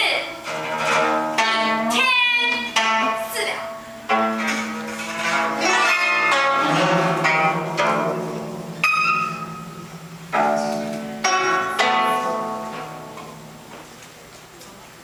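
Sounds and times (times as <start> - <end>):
zither plucked notes: 0.0 - 14.8
low sustained zither note: 0.4 - 13.8.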